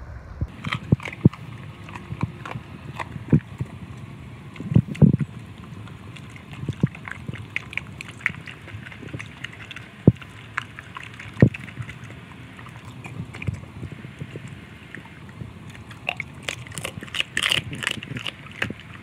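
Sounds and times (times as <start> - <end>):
dog lapping and slurping: 0.5 - 19.0.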